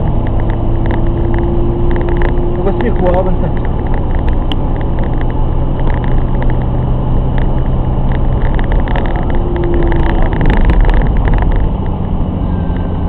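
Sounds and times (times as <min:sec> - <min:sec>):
car engine running: 0:00.0 - 0:13.0
road noise: 0:00.0 - 0:13.0.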